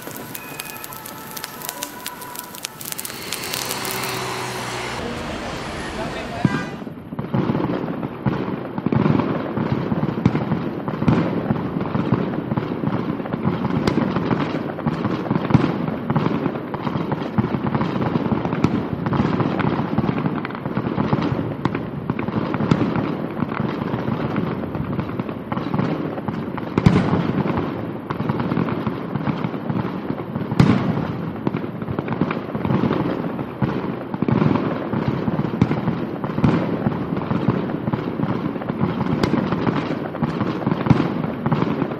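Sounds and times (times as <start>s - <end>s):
fireworks pops and bangs: 0.0s - 5.0s, 7.2s - 41.9s.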